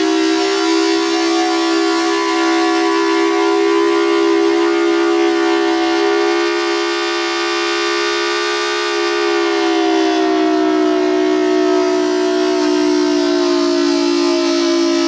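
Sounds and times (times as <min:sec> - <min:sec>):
warning siren steady wail: 0:00.0 - 0:15.0.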